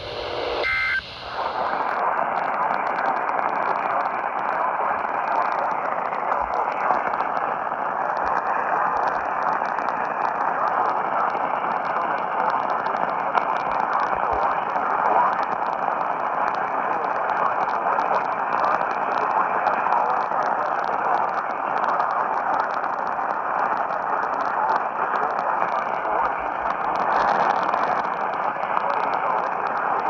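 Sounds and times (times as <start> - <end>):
faint crackles: 0.0 - 30.0
radio static hiss: 0.0 - 30.0.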